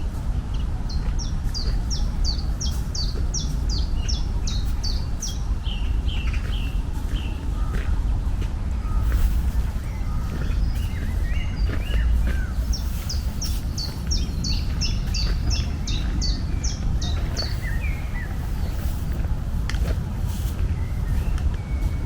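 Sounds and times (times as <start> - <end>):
birds chirping: 0.0 - 22.0
steady low rumble: 0.0 - 22.0.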